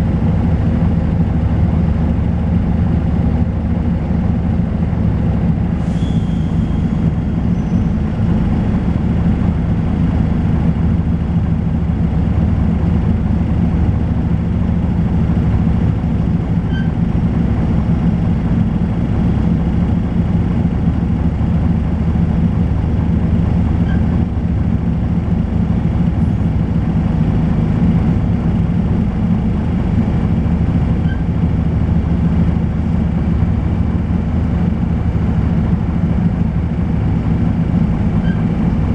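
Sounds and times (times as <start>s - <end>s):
diesel bus engine running: 0.0s - 38.9s.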